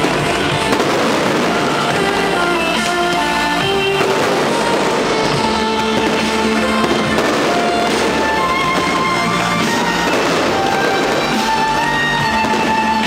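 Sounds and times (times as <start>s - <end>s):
fireworks crackling: 0.0s - 13.0s
music with held notes: 0.0s - 13.0s.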